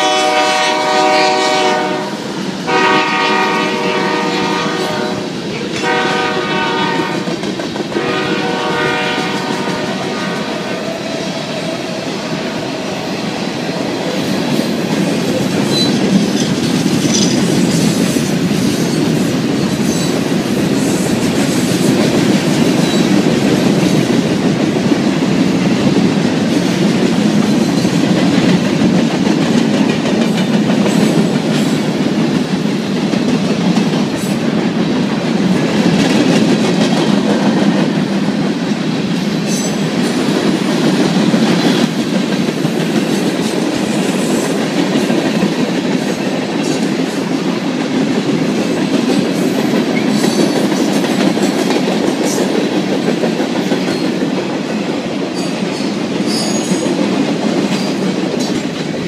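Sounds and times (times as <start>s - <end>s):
train wheels rumbling on rail: 0.0s - 59.0s
wheels clacking over rail joints: 4.1s - 59.0s.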